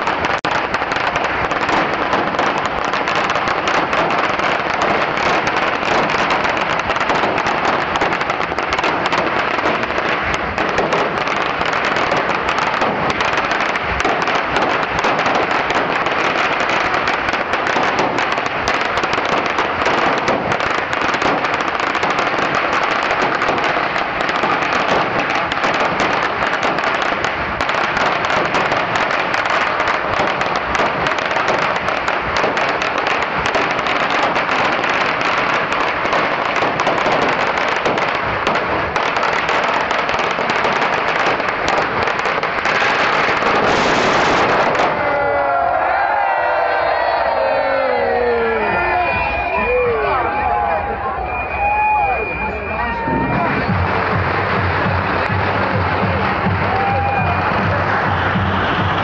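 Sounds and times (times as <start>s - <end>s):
firecrackers crackling: 0.0s - 59.0s.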